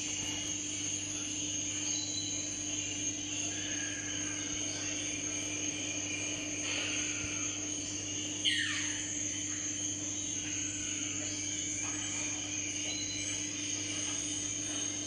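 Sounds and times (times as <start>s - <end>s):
electrical hum and whine: 0.0s - 15.0s.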